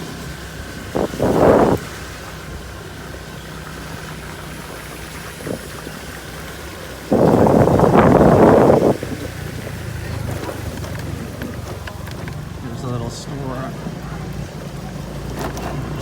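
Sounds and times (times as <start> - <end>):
wind buffeting microphone: 0.0 - 13.1
motor scooter engine: 0.0 - 16.0.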